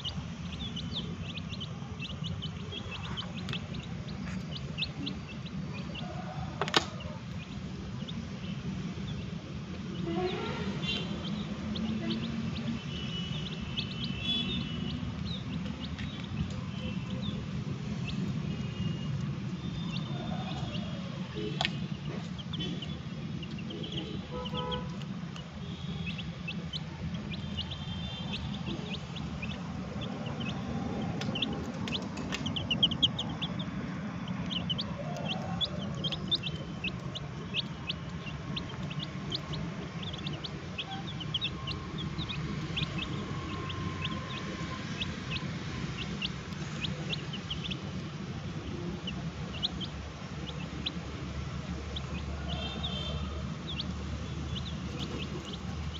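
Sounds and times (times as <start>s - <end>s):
steady low hum: 0.0s - 6.4s, 7.0s - 52.4s
chicks peeping: 0.0s - 55.9s.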